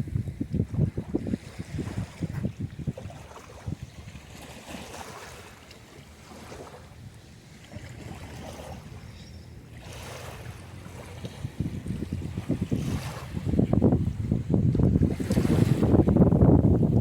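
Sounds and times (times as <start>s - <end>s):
wind rumble on microphone: 0.0s - 17.0s
sea waves washing onto beach: 0.6s - 17.0s.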